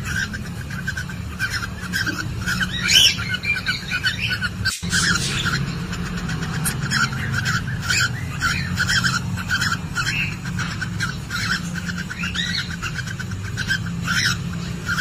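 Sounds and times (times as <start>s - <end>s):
cockatiel chirping: 0.0s - 15.0s.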